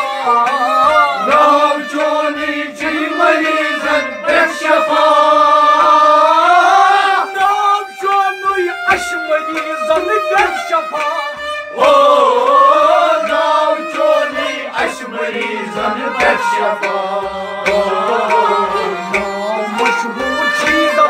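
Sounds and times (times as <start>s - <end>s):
harmonium and string instruments: 0.0s - 21.0s
man singing loudly: 0.0s - 21.0s.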